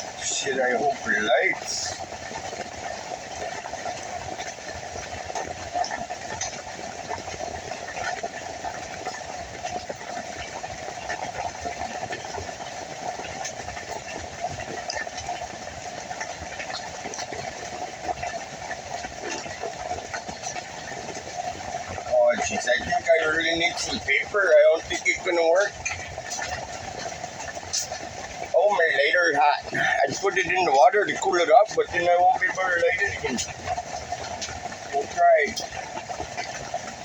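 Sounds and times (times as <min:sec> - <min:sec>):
rain drop ticks: 0:00.0 - 0:37.0
steady rain falling: 0:00.0 - 0:37.0.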